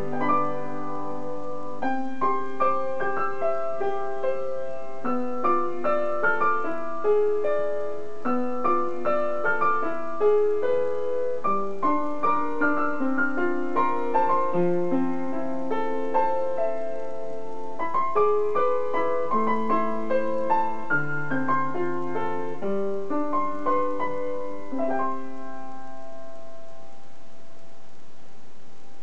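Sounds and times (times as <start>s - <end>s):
upright piano playing: 0.0s - 28.0s.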